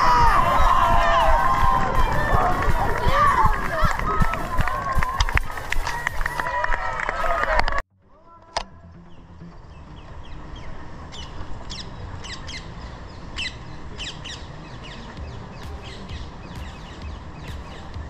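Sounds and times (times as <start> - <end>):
birds chirping: 0.0 - 6.3, 8.8 - 18.0.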